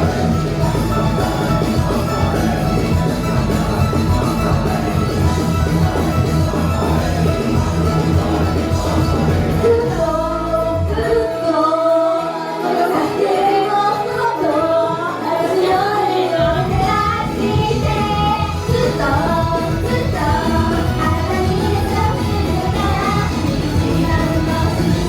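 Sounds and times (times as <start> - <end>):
female group singing pop song: 0.0 - 25.0
sped-up backing track: 0.0 - 25.0.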